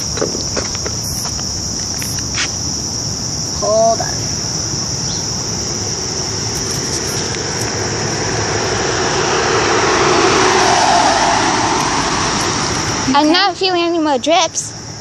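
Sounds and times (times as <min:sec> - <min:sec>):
insects droning: 0:00.0 - 0:15.0
vehicle engine and road noise: 0:00.0 - 0:15.0.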